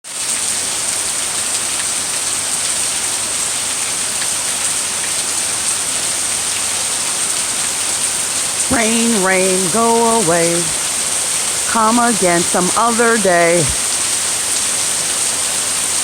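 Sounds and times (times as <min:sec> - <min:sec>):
steady rain falling: 0:00.1 - 0:16.0.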